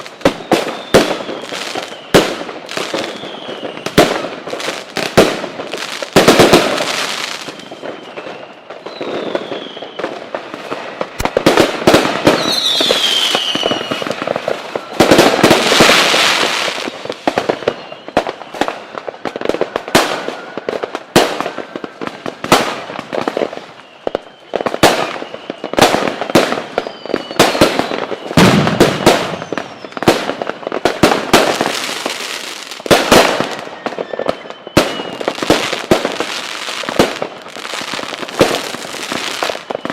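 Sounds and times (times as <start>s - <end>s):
falling firework whistles: 0.0s - 39.9s
fireworks bangs and crackling: 0.0s - 39.9s.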